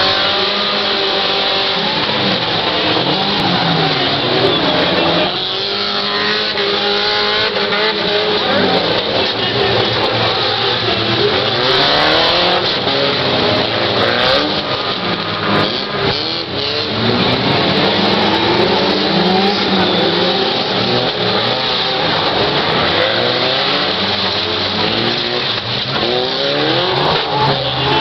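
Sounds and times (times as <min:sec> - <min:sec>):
car engines revving: 0:00.0 - 0:28.0
steady rush of noise: 0:00.0 - 0:28.0.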